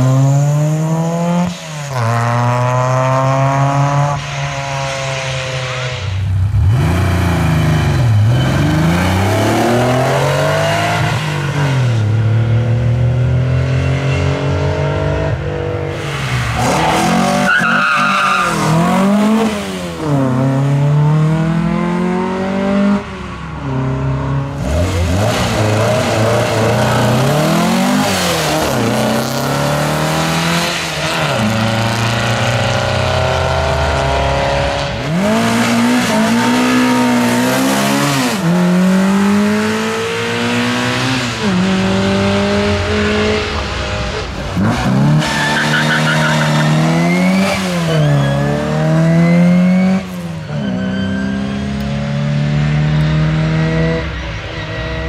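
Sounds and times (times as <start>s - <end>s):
racing car engines revving: 0.0s - 55.0s.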